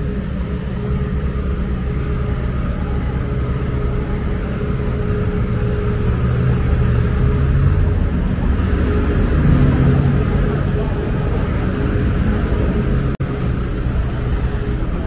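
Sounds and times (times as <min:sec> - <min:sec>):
car passing close: 0:00.0 - 0:15.0
road traffic rumble: 0:00.0 - 0:15.0.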